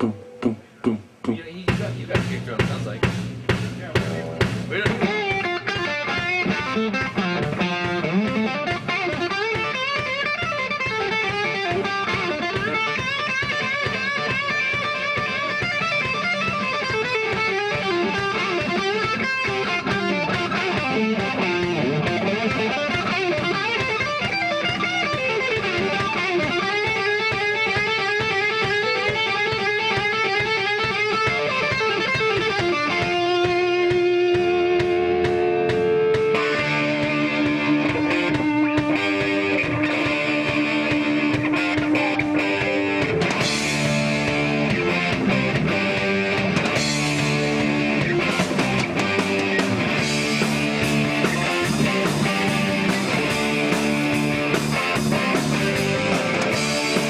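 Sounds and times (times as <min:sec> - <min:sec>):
electric guitars: 0:00.0 - 0:57.0
rock band playing: 0:00.0 - 0:57.0.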